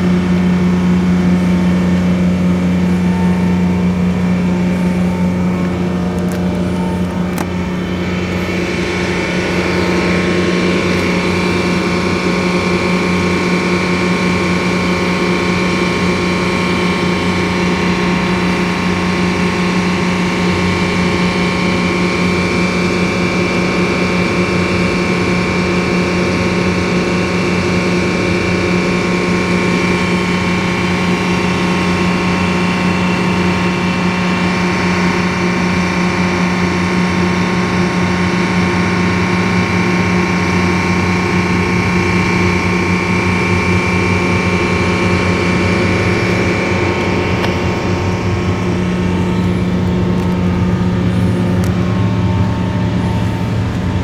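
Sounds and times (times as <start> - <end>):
locomotive engine low drone: 0.0 - 54.0
steady high whine: 0.0 - 54.0.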